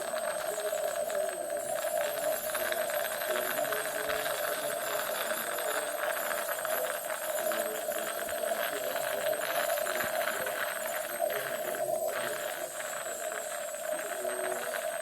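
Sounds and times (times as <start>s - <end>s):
dental equipment humming: 0.0s - 15.0s.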